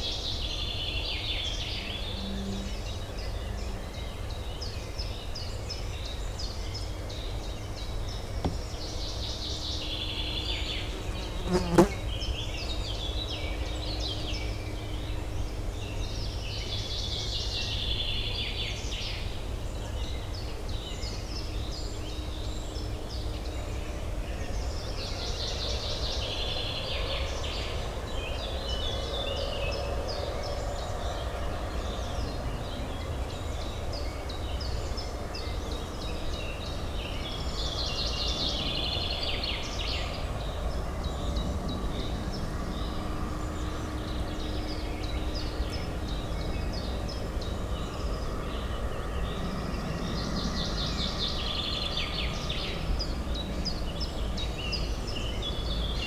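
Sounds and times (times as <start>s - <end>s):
distant city traffic hum: 0.0s - 56.0s
songbirds chirping: 0.0s - 56.0s.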